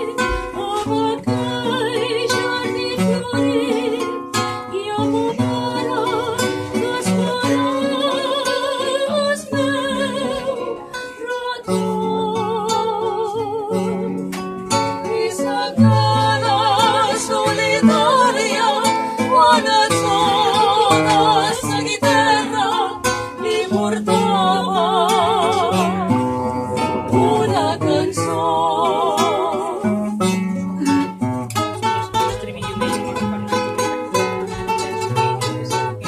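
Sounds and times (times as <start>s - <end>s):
women singing together: 0.0s - 31.1s
acoustic guitar: 0.0s - 36.0s.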